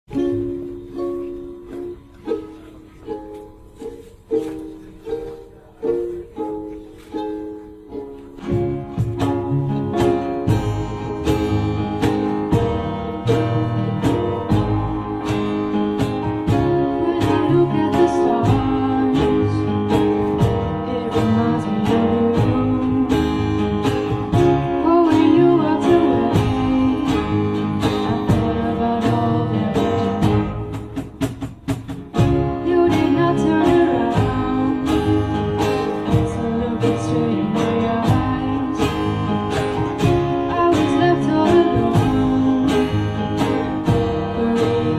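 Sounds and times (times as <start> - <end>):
strummed acoustic guitar: 0.1 - 44.9
band playing a song: 6.0 - 44.9.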